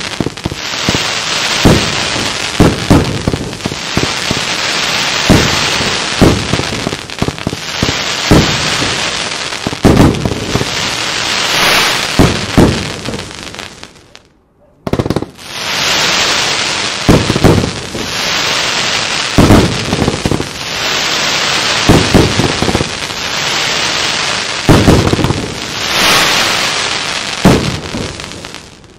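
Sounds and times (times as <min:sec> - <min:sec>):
firework shots: 0:00.0 - 0:14.2, 0:14.8 - 0:28.9
loud firework bursts: 0:00.0 - 0:14.2, 0:14.9 - 0:28.9
hissing crackle: 0:00.0 - 0:14.3, 0:14.9 - 0:28.9.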